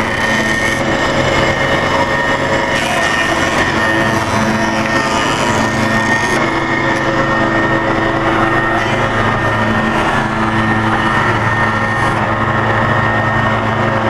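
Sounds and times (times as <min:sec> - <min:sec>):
constant machine whine: 0:00.0 - 0:14.0
woodworking machine running: 0:00.0 - 0:14.0.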